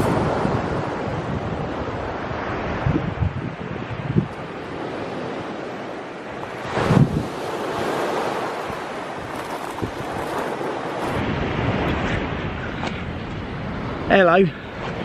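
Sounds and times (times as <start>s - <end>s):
surf washing onto beach: 0.0s - 15.0s
wind noise on microphone: 0.0s - 15.0s.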